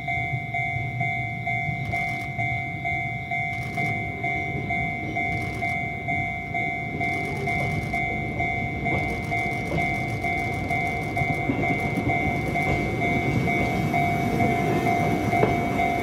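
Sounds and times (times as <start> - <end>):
level crossing bell dinging: 0.0 - 16.0.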